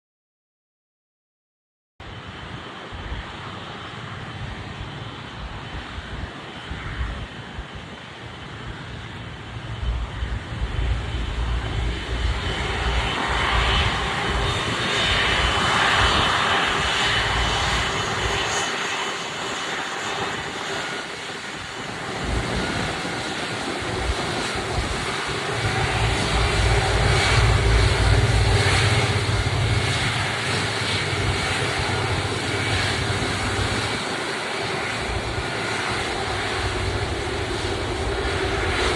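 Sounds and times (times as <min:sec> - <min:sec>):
jet engines whining: 0:02.4 - 0:38.9.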